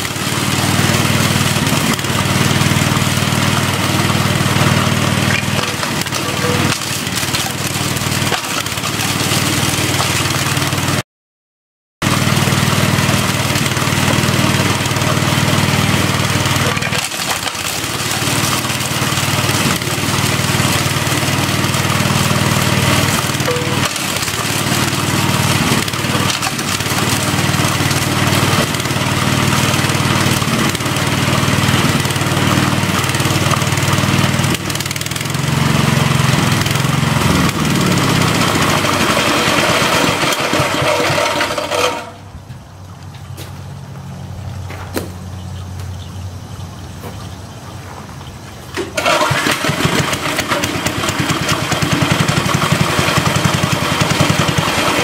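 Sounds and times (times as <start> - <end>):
small gasoline engine running: 0.0 - 11.0, 12.0 - 42.3, 48.7 - 55.0.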